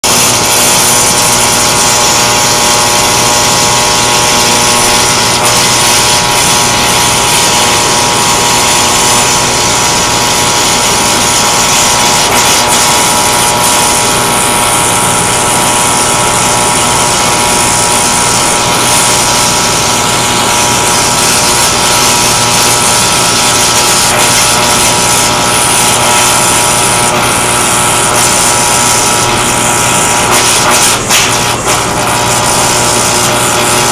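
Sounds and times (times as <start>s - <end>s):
steady hum: 0.0s - 33.9s
welding arc crackling and hissing: 0.0s - 33.9s.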